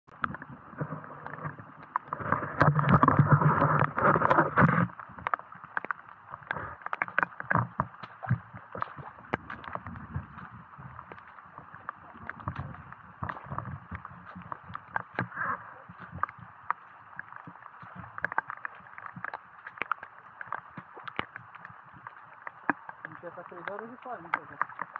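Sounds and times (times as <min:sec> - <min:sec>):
raindrops tapping on camera: 0:00.1 - 0:24.9
splashing and rushing water: 0:00.1 - 0:24.9
water sloshing underfoot: 0:00.1 - 0:24.9.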